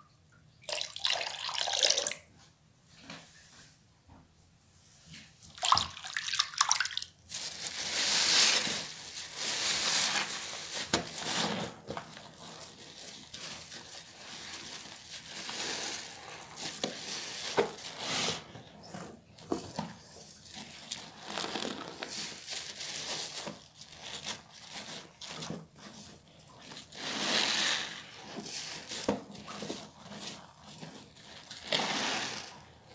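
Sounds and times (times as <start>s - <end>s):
sponge squelching in soapy water: 5.4s - 19.0s, 20.0s - 32.9s.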